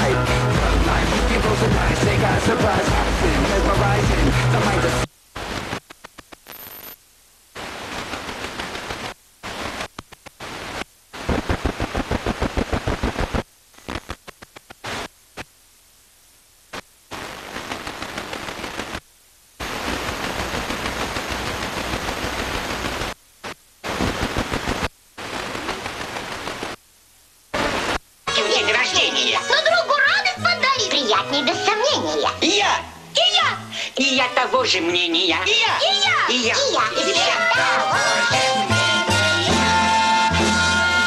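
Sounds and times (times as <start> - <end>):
radio static hiss: 0.0 - 38.8.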